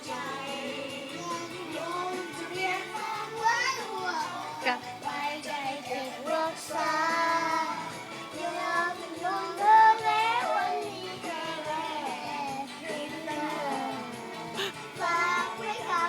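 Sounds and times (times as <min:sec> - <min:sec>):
pop song with steady beat: 0:00.0 - 0:16.0
small child singing: 0:00.0 - 0:16.0.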